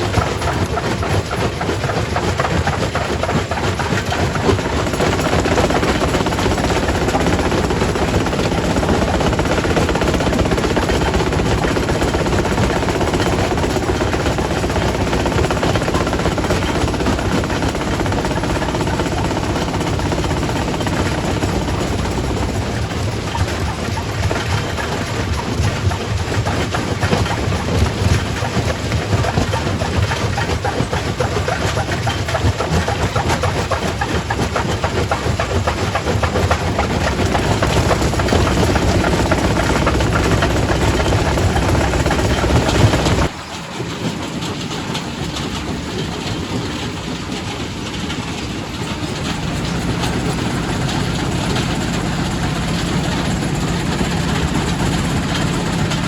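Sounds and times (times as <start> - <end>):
heavy machine hum: 0.0 - 56.0
rock crusher clattering and grinding: 0.0 - 56.0.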